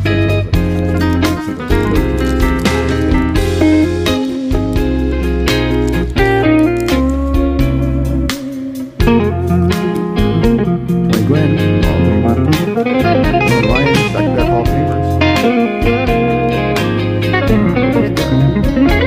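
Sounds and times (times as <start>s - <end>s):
bluesy electric guitar music: 0.0s - 19.0s.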